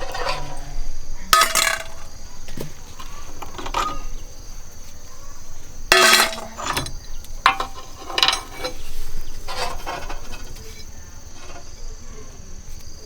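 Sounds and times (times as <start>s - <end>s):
metal tools clinking: 0.0s - 12.1s
insect drone: 0.0s - 13.0s.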